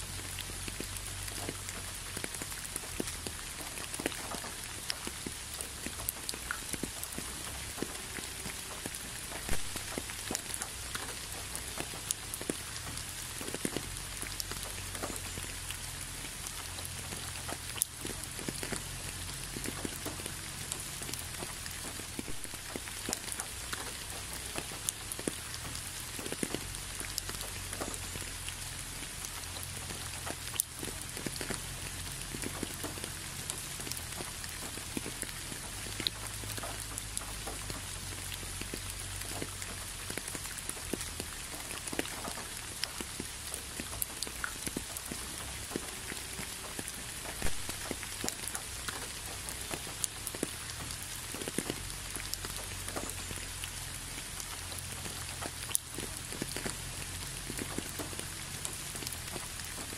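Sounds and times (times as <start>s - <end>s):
raindrops ticking close by: 0.0s - 59.9s
steady rain: 0.0s - 59.9s.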